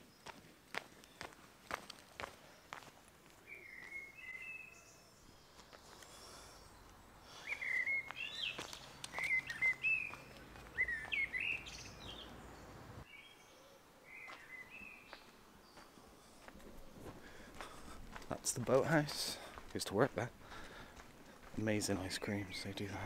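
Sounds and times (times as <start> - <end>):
birds chirping: 0.0 - 23.0
faint outdoor background noise: 0.0 - 23.0.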